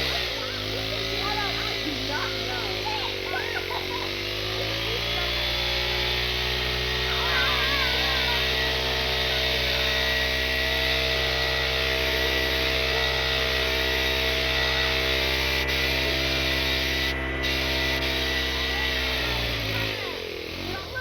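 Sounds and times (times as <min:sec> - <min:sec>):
motor droning: 0:00.0 - 0:21.0.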